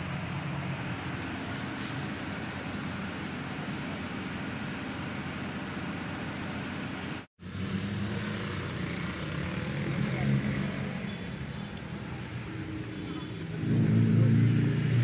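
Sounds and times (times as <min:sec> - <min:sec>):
low engine hum: 0:00.0 - 0:15.0
outdoor vehicle noise: 0:00.0 - 0:15.0.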